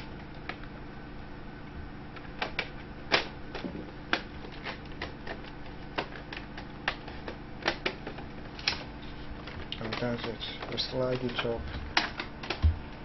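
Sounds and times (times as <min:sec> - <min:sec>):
plastic clips snapping: 0:02.2 - 0:12.7.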